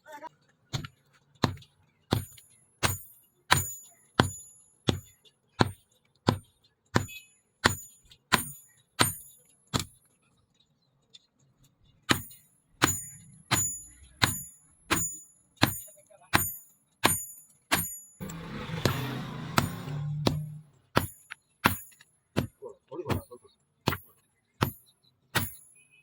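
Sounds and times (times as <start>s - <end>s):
hammer striking steel on anvil: 0.8s - 6.4s, 7.0s - 9.9s, 12.1s - 22.5s, 23.9s - 25.8s.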